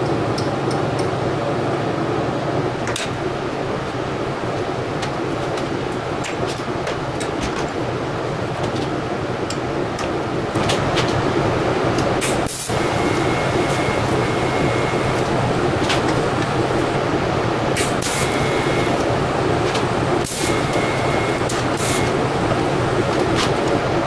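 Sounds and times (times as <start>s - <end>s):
machine hum: 0.0s - 24.0s
welding arc hum: 0.0s - 24.0s
thin steady whine: 1.3s - 24.0s.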